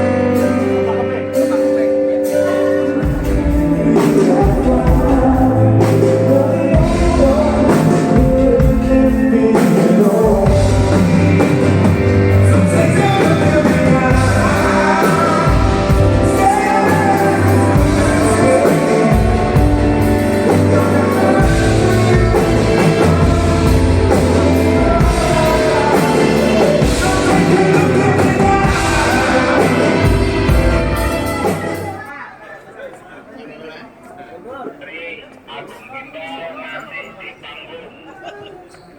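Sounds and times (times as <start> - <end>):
rock band playing with singing: 0.0 - 32.2.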